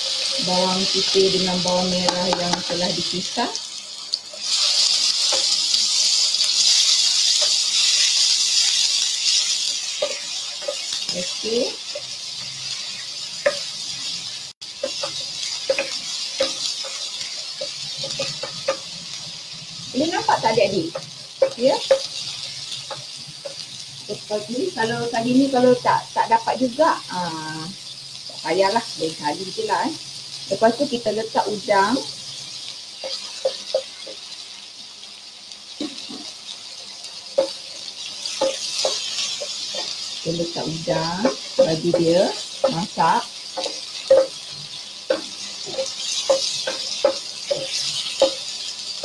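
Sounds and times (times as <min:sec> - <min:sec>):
food sizzling in oil: 0:00.0 - 0:49.0.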